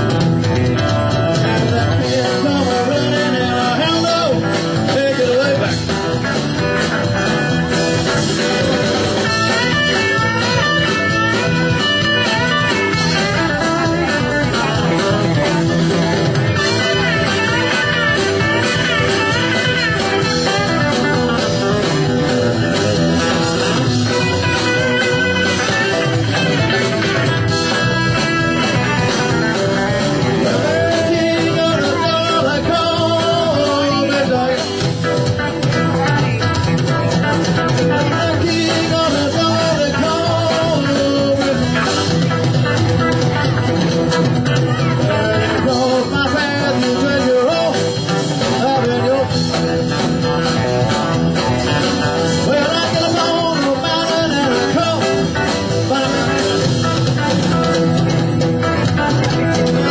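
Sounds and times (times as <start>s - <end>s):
bending guitar melody: 0.0s - 59.9s
live rock and roll band: 0.0s - 59.9s.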